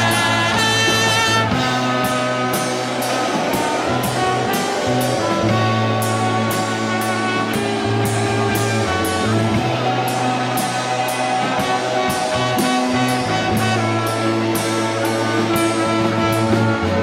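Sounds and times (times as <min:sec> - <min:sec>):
bass guitar low notes: 0:00.0 - 0:17.0
drum kit with cymbal: 0:00.0 - 0:17.0
electric guitar: 0:00.0 - 0:17.0.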